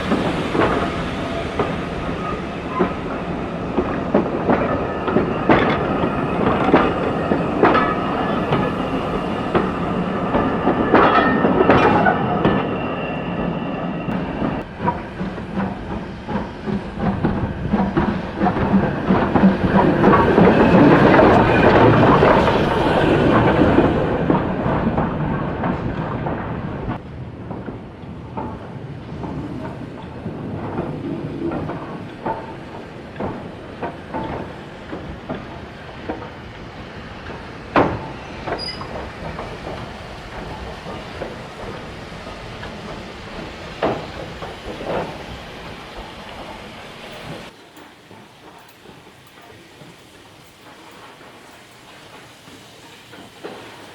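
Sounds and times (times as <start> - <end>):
train wheels clicking over rails: 0.0 - 53.9.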